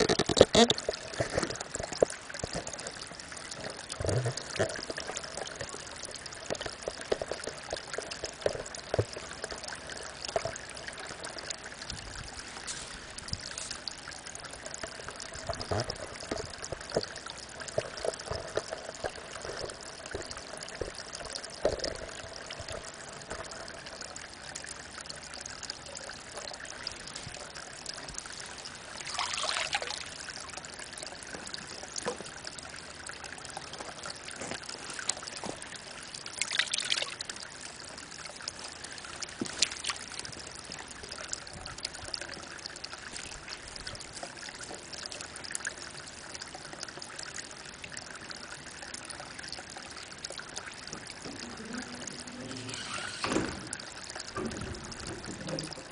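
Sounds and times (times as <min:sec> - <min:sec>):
water trickling into a pond: 0:00.0 - 0:55.9.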